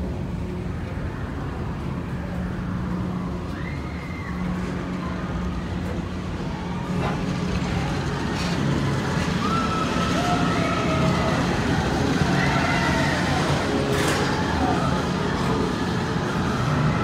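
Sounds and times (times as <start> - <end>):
ride car humming on track: 0.0 - 17.0.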